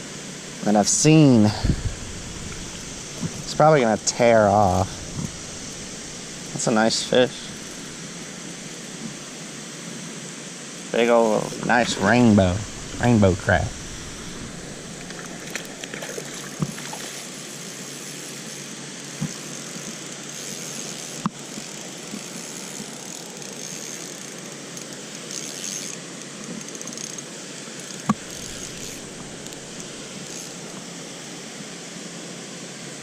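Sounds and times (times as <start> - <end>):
running stream water: 0.0 - 33.0.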